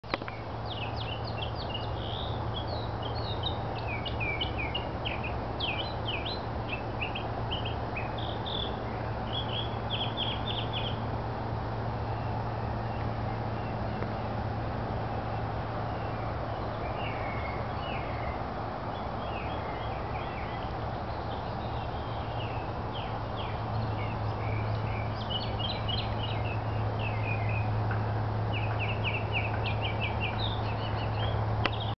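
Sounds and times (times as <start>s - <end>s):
small birds chirping: 0.1s - 11.2s, 15.0s - 32.0s.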